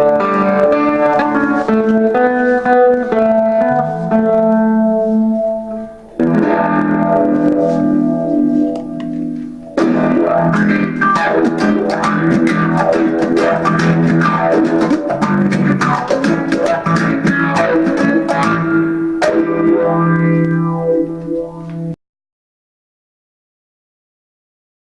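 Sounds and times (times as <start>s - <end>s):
fuzzy electric guitar strumming: 0.0s - 22.0s.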